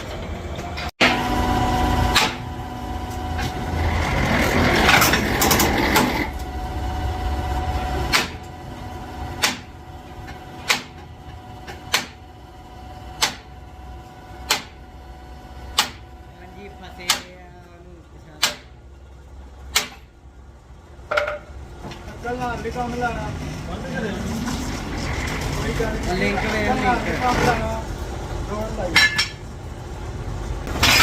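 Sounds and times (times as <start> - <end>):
workshop machinery hum: 0.0 - 31.0.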